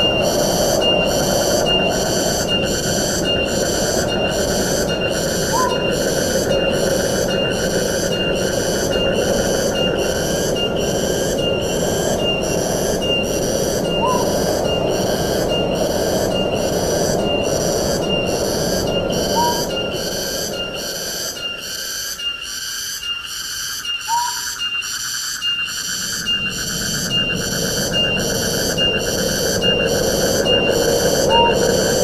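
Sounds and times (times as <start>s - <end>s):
high pulsing buzzing call: 0.0s - 32.0s
wind in trees: 0.0s - 32.0s.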